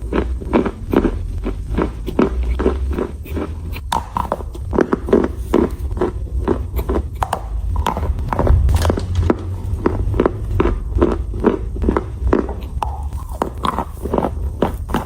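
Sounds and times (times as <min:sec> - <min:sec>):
chewing crunchy chalk: 0:00.0 - 0:15.0.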